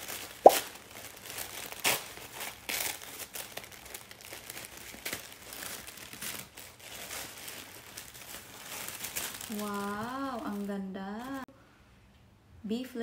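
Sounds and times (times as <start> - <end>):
tissue paper crinkling: 0.0 - 11.5.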